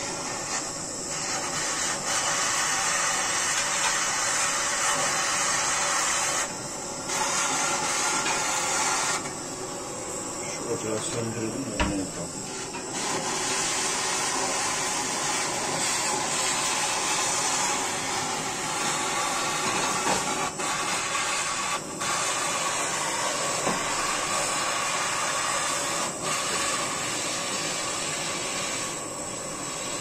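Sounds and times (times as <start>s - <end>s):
blowtorch flame hissing: 0.0s - 30.0s.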